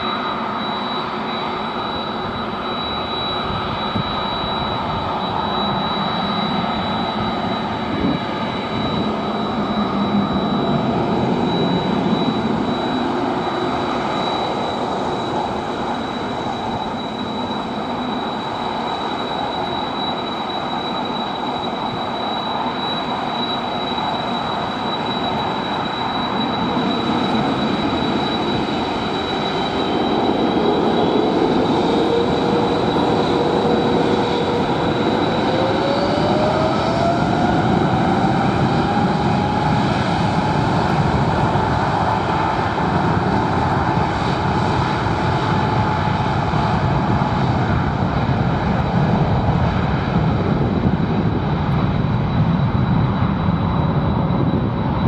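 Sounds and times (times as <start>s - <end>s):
jet engines rumbling: 0.0s - 55.0s
rising jet whine: 0.0s - 55.0s.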